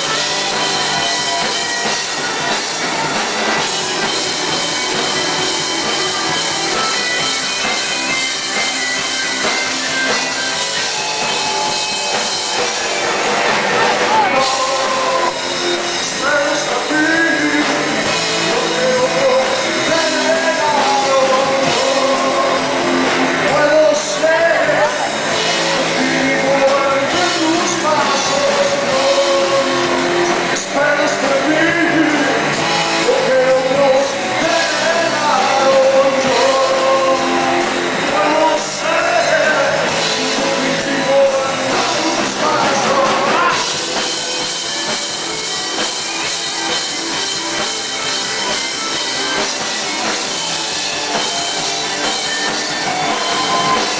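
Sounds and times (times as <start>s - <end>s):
person singing: 0.0s - 45.5s
rock band playing live: 0.0s - 53.9s.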